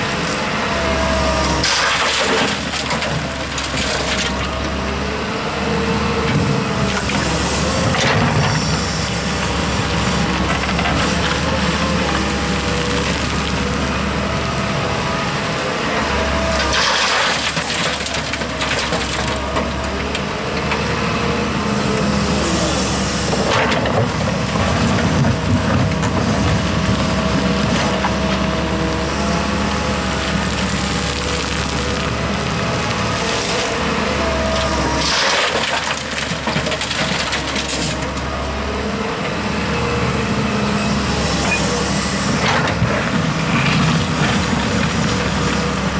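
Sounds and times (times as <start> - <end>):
diesel engines of heavy machinery: 0.0 - 45.9.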